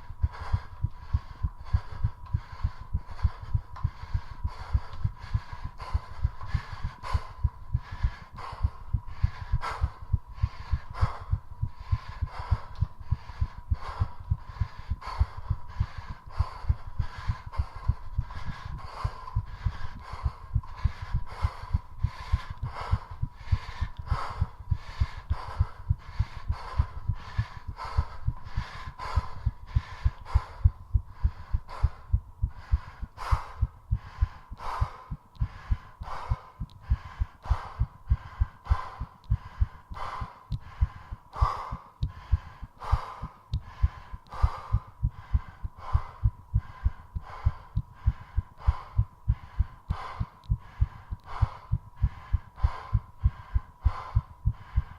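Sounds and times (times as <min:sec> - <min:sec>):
faint steady whine: 0:00.0 - 0:54.9
heart beating fast: 0:00.0 - 0:54.9
heavy panting breaths: 0:00.0 - 0:54.9.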